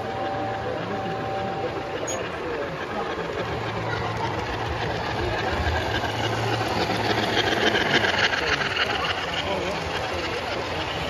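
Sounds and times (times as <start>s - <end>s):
model train hum: 0.0s - 11.0s
wheels clicking over track: 2.0s - 11.0s.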